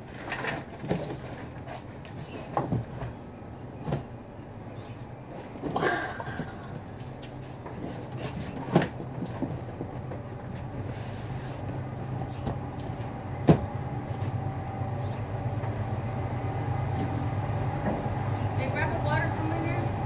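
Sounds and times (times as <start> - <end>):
low hum: 2.8 - 20.0.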